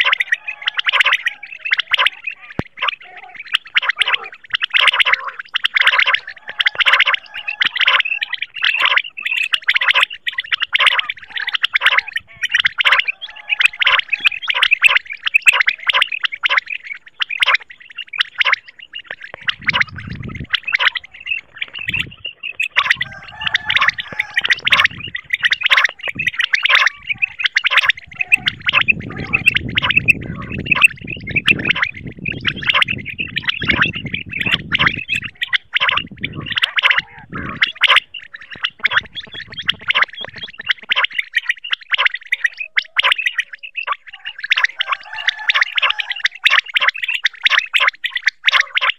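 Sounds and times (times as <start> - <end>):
quail high chirping calls: 0.0 - 48.9.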